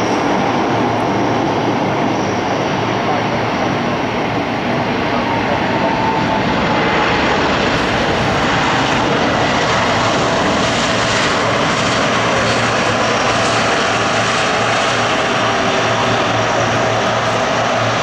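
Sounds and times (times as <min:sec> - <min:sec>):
turboprop engines droning: 0:00.0 - 0:18.0.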